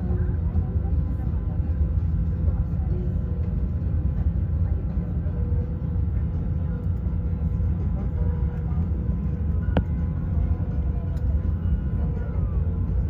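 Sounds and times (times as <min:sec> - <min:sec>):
aircraft cabin rumble: 0:00.0 - 0:13.0
faint steady hums: 0:00.0 - 0:13.0.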